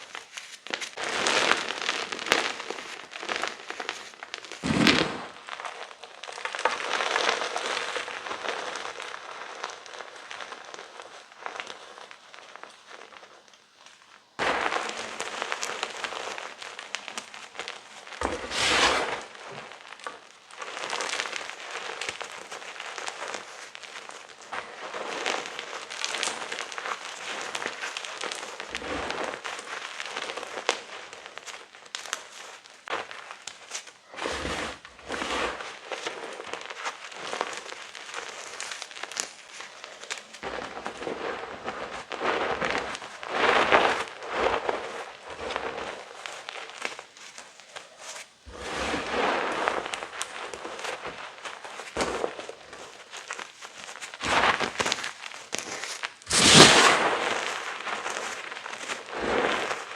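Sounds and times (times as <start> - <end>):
chalk being crushed: 0.0 - 5.8, 14.4 - 59.9.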